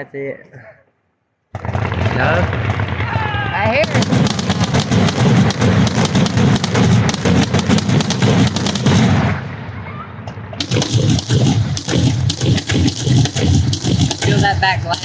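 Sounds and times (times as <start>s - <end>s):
fireworks bangs and crackles: 1.5s - 15.0s.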